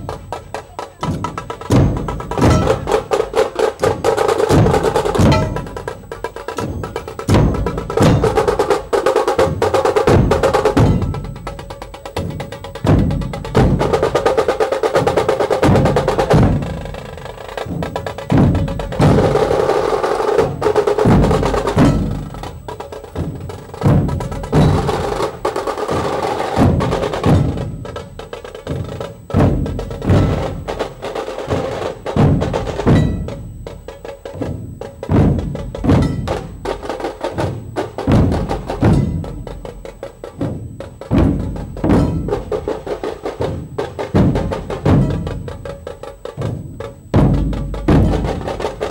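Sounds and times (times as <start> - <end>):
fast drum rolls: 0.0 - 48.9
large drums beaten with sticks: 0.0 - 48.9.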